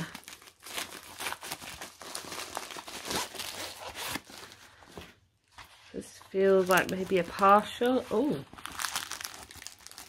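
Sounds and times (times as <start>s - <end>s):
plastic bag crinkling: 0.0s - 4.9s, 6.0s - 10.0s
paper-wrapped canvas pulled out: 0.0s - 10.0s.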